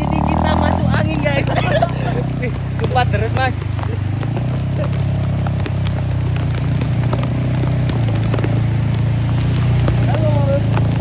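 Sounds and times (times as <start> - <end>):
motorcycle engine running: 0.0 - 11.0
rain and wind hiss: 0.0 - 11.0
raindrops ticking on phone: 0.2 - 11.0.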